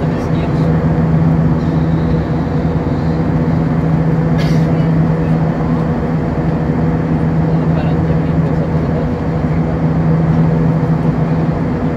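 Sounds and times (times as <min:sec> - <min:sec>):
airplane cabin air rush: 0:00.0 - 0:11.9
low engine hum: 0:00.0 - 0:11.9.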